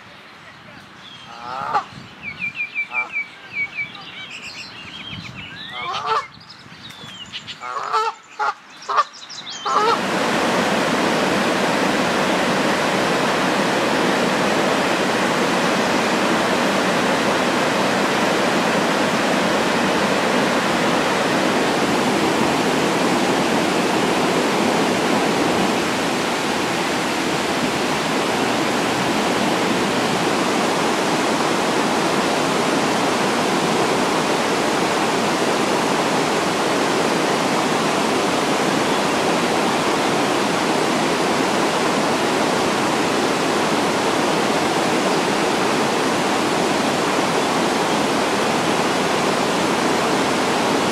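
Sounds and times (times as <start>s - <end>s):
water rushing over rocks: 9.7s - 50.9s.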